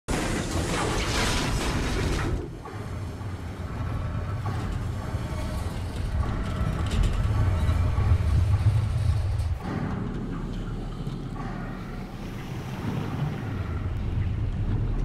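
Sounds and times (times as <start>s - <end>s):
deep low rumble: 1.5s - 15.0s.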